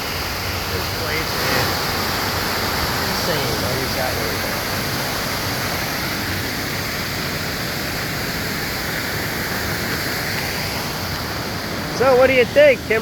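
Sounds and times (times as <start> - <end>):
waterfall and creek rushing: 0.0 - 13.0.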